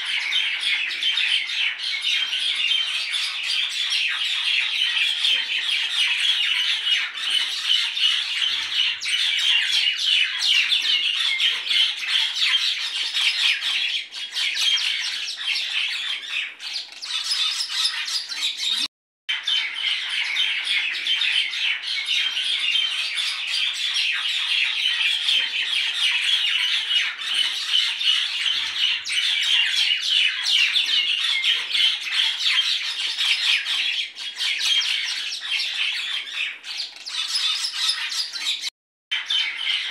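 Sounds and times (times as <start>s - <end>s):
birds chattering and squawking: 0.0s - 39.9s.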